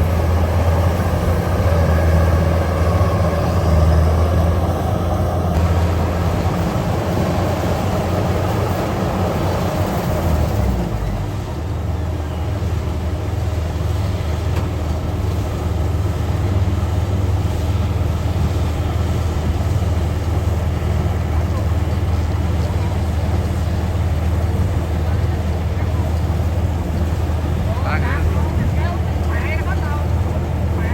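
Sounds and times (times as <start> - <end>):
combine harvester diesel engine: 0.0 - 30.9.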